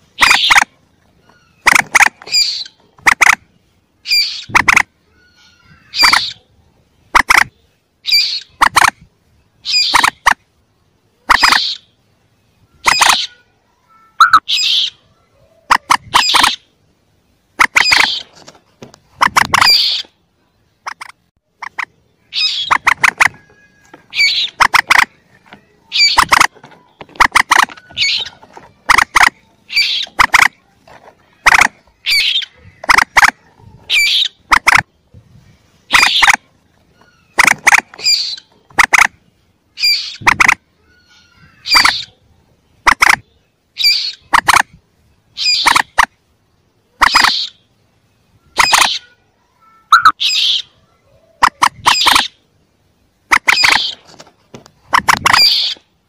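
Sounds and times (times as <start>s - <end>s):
rail bird chirping calls: 0.0s - 18.4s, 19.0s - 44.4s, 45.0s - 54.1s, 54.7s - 56.0s.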